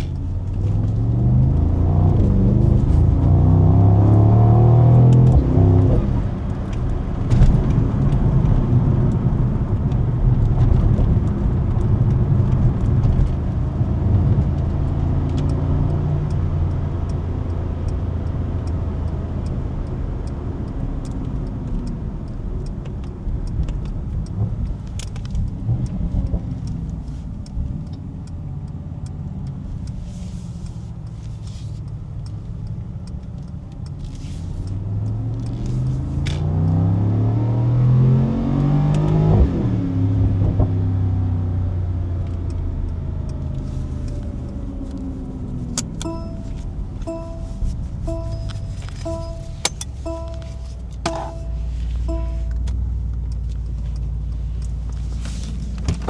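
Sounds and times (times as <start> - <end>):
car exhaust drone: 0.0 - 56.0
exhaust pops and crackles: 0.0 - 56.0.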